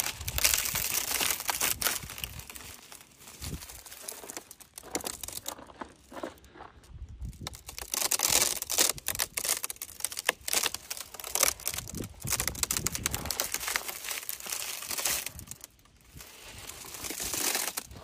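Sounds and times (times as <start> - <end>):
frozen flag crackling: 0.0 - 6.3, 7.3 - 18.0.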